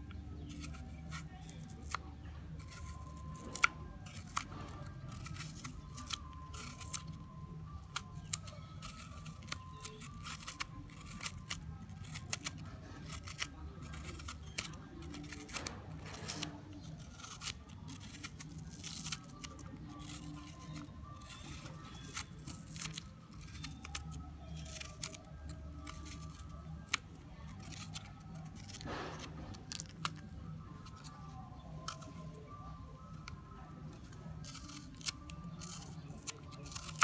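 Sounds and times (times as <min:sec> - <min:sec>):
faint background music: 0:00.0 - 0:37.0.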